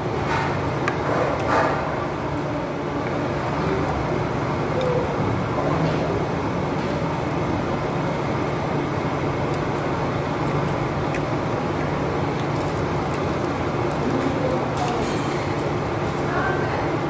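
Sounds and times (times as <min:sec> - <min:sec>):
restaurant dining room rumble: 0:00.0 - 0:17.0.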